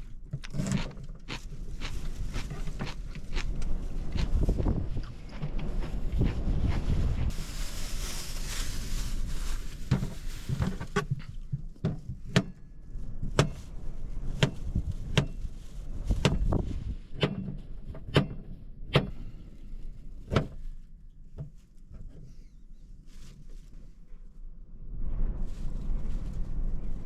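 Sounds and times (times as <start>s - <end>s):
wind noise: 0.0s - 20.8s, 23.1s - 27.0s.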